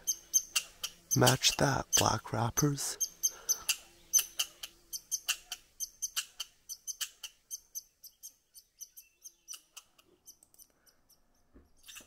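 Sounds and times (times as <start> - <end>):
squirrel chirping: 0.0 - 12.0.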